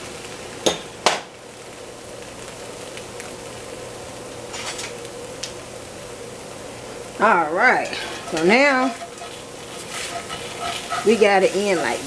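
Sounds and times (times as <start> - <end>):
noodles sizzling in a skillet: 0.0 - 12.0.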